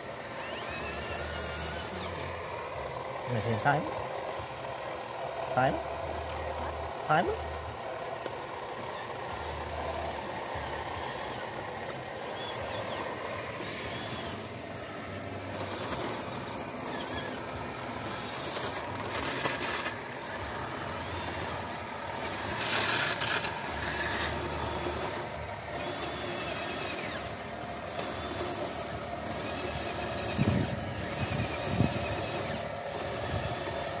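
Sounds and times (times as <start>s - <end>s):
rc excavator motor whine: 0.0s - 34.0s
short rising motor sounds: 0.0s - 34.0s
toy dump truck driving: 0.0s - 34.0s.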